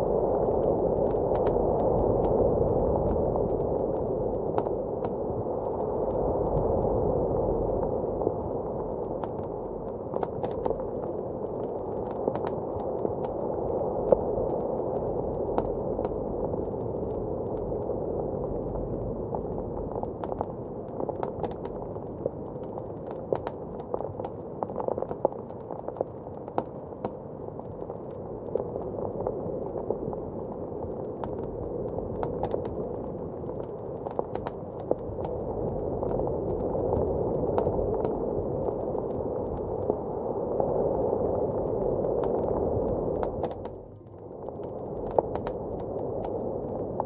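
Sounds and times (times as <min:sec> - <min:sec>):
blizzard wind: 0:00.0 - 0:47.0
wood fire crackling: 0:00.0 - 0:47.0.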